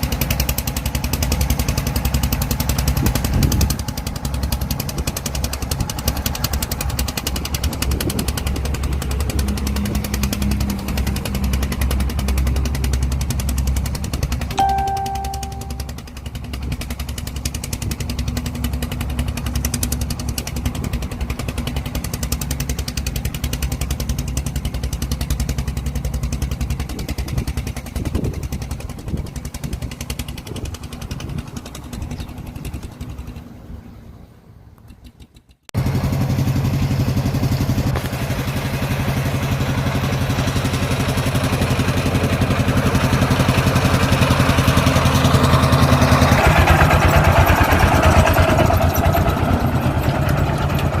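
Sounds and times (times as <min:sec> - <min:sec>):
louder steady engine: 0:00.0 - 0:34.2, 0:35.8 - 0:51.0
tractor diesel engine pulsing: 0:00.0 - 0:51.0.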